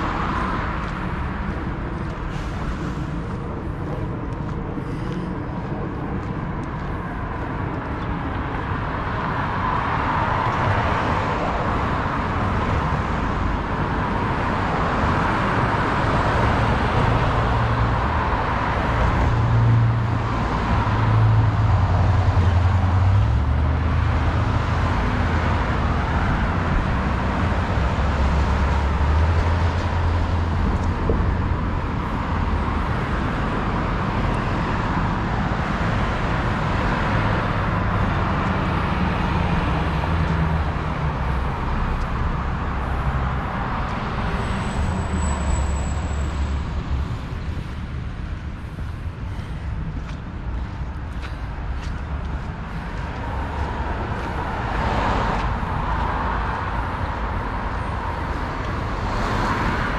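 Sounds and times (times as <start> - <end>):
cars passing: 0.0 - 59.9
low traffic rumble: 0.0 - 59.9.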